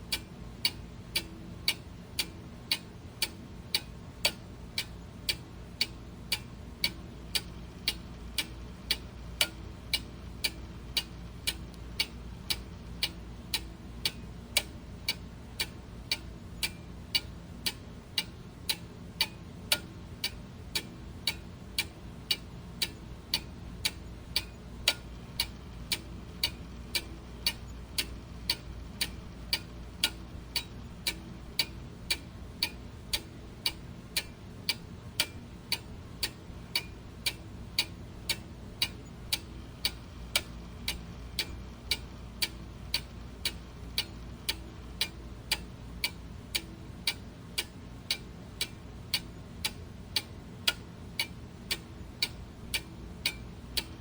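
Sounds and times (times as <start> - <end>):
clock ticking: 0.1 - 54.0.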